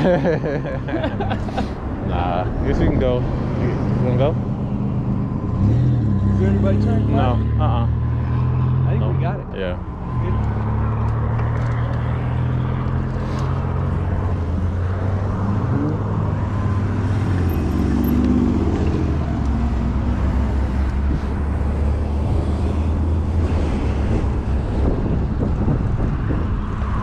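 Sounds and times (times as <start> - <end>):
vehicle engines humming: 0.0 - 27.0.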